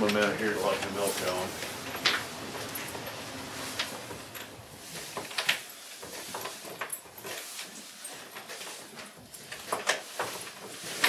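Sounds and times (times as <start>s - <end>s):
cows chewing dry hay: 0.0s - 11.0s.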